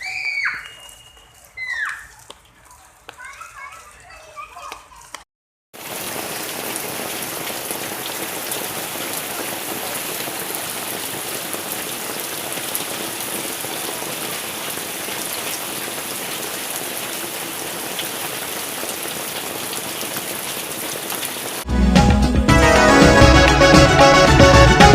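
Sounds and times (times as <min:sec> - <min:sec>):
heavy rain pattering: 0:00.0 - 0:05.2, 0:05.8 - 0:21.7.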